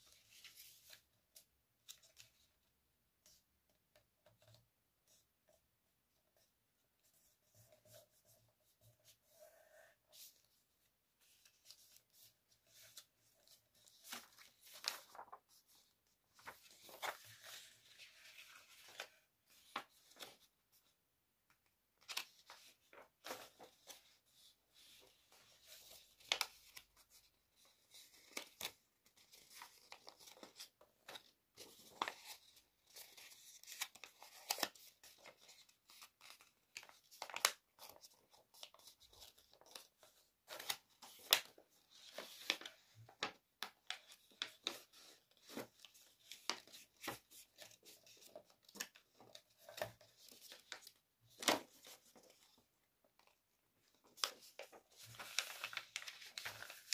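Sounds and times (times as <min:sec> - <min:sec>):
paper rustling and crinkling: 0:10.1 - 0:20.9, 0:22.0 - 0:56.9.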